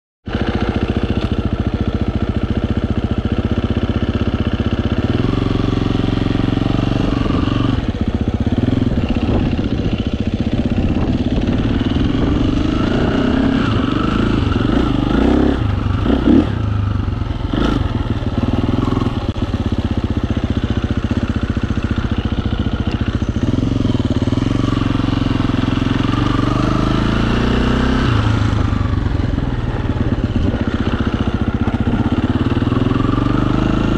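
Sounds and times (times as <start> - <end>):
dirt bike engine revving: 0.3 - 33.9.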